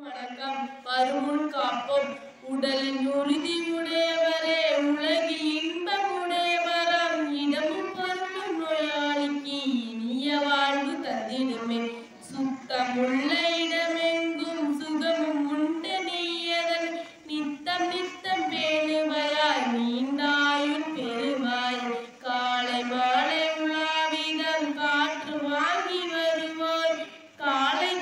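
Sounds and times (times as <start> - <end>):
girl singing into microphone: 0.0 - 28.0.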